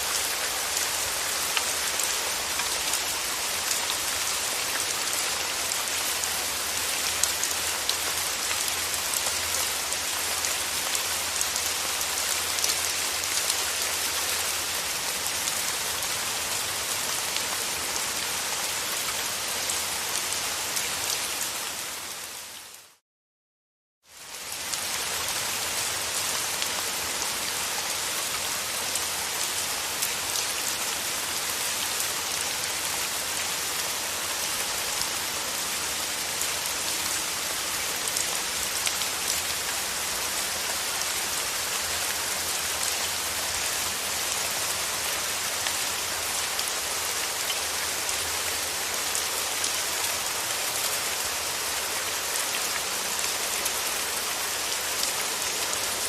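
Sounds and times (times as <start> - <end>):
steady rain falling: 0.0 - 23.0, 24.0 - 56.0.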